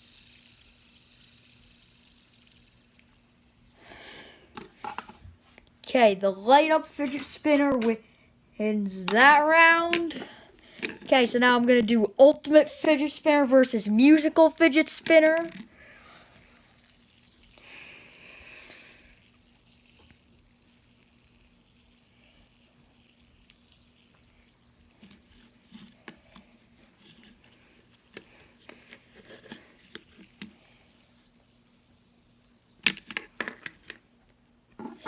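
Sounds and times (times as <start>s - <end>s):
fidget spinners whirring: 0.0s - 4.9s, 5.9s - 8.0s, 8.7s - 34.1s.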